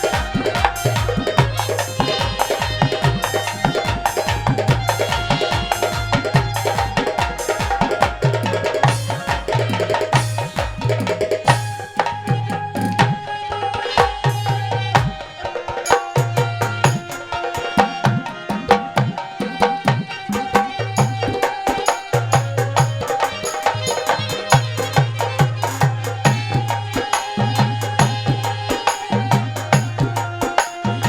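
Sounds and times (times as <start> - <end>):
hand drums playing: 0.0 - 31.0
held melody line: 0.0 - 31.0.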